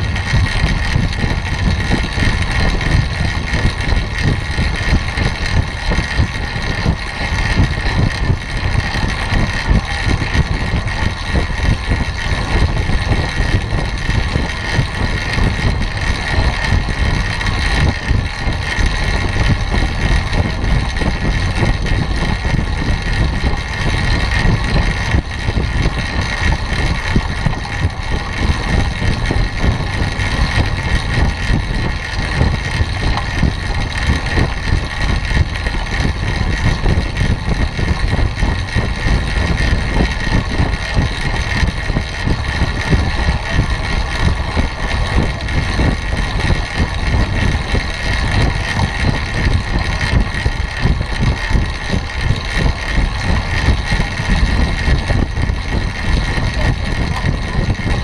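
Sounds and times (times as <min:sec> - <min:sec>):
bike tyres whirring on wooden boards: 0:00.0 - 0:58.0
wind buffeting microphone: 0:00.0 - 0:58.0.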